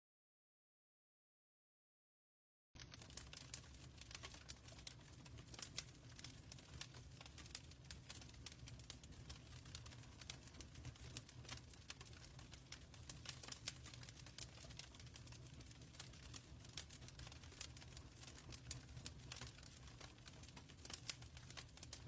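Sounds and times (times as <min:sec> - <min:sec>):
wood fire crackling: 0:02.8 - 0:22.0.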